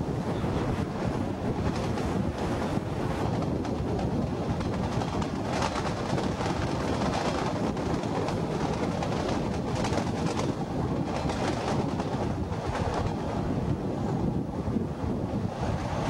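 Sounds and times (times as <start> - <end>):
rapid transit car running: 0.0 - 16.0
wind buffeting microphone: 0.0 - 16.0.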